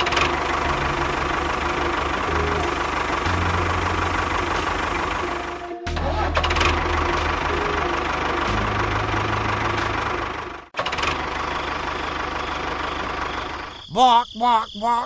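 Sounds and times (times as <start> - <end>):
engine droning: 0.0 - 13.8.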